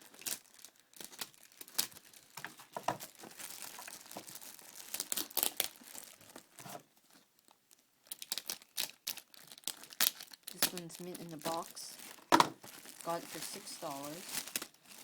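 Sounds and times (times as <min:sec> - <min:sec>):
wrapping crumpled and torn: 0:00.0 - 0:15.0.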